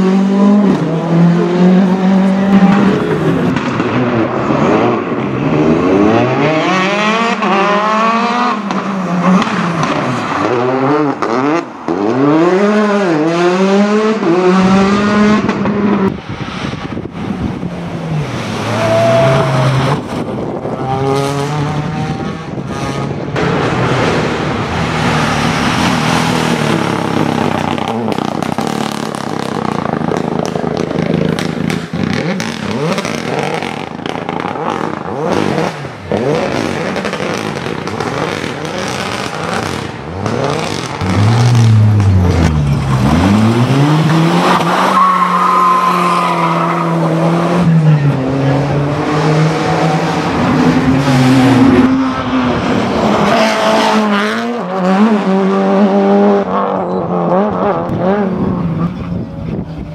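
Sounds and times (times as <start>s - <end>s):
rally cars revving past: 0.0s - 59.2s.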